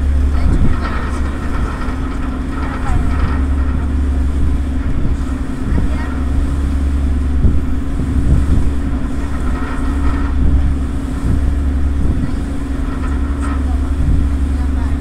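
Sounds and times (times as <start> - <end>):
ship engines droning: 0.0 - 15.0
wind on microphone: 0.0 - 15.0.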